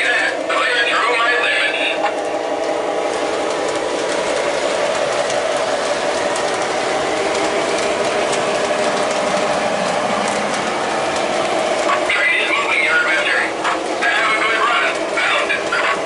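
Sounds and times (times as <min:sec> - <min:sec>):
model train rolling rumble: 0:00.0 - 0:16.0.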